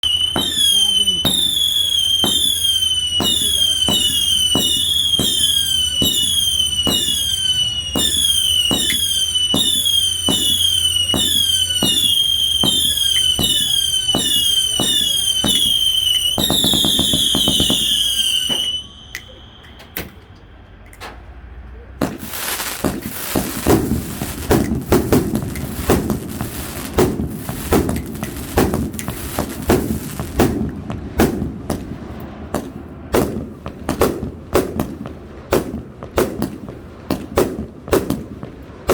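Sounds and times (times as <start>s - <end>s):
firework crackling and popping: 0.0s - 21.1s, 22.0s - 38.9s
firework whistling shots: 0.0s - 38.9s.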